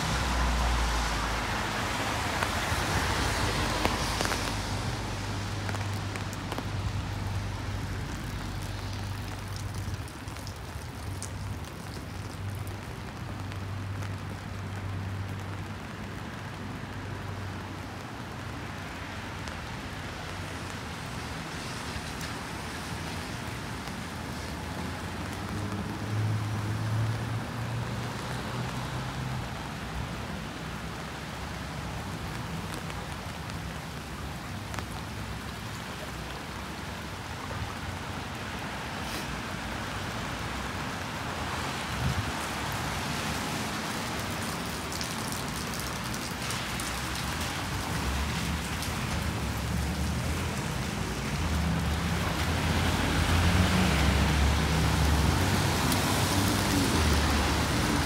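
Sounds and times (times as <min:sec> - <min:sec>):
rain falling on street: 0:00.0 - 0:58.0
traffic rumble: 0:00.0 - 0:58.0.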